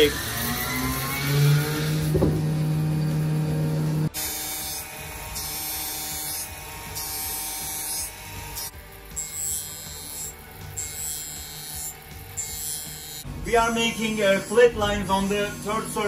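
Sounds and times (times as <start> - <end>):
milling machine hum and whine: 0.0 - 16.0.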